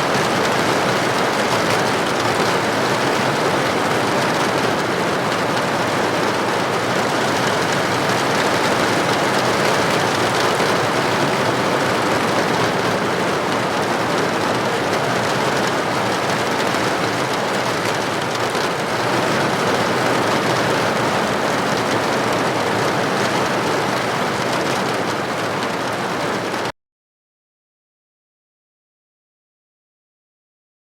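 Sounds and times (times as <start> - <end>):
steady rain: 0.0 - 26.7.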